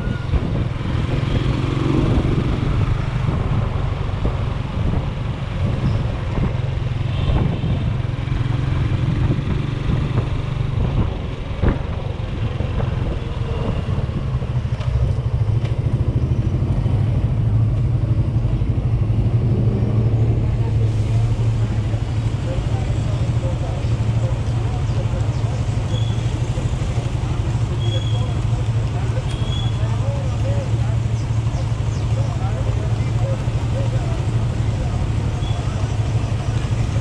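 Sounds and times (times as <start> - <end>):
motorcycle engine running: 0.0 - 37.0
tyre noise on wet road: 0.0 - 37.0.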